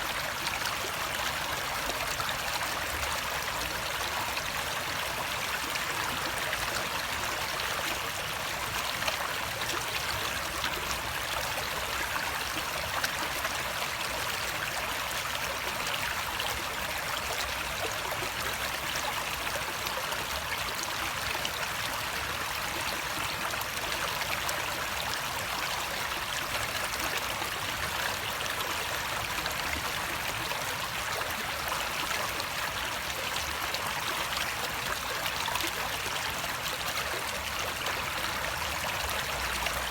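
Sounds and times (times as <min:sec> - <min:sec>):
running water flowing and splashing: 0:00.0 - 0:39.9.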